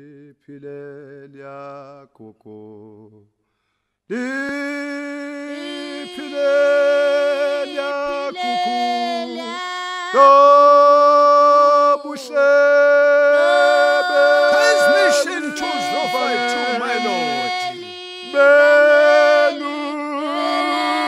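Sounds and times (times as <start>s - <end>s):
choir singing a cappella: 4.1s - 21.0s.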